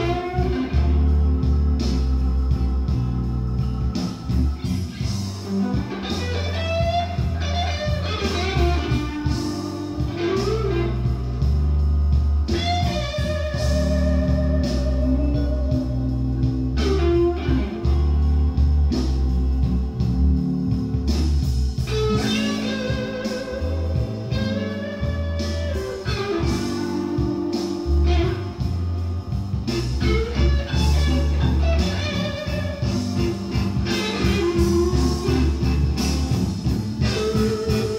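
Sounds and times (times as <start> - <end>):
electric guitar with vibrato: 0.0 - 37.9
heavy bass line: 0.0 - 37.9.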